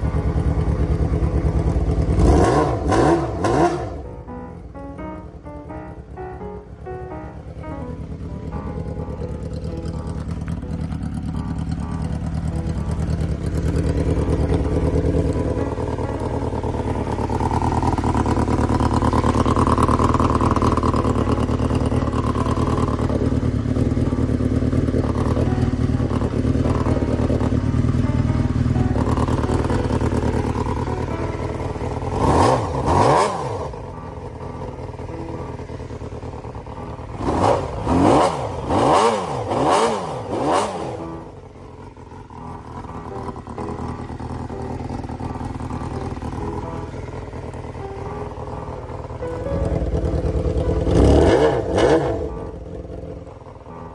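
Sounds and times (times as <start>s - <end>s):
motorcycle engine revving: 0.0s - 4.7s, 7.4s - 53.9s.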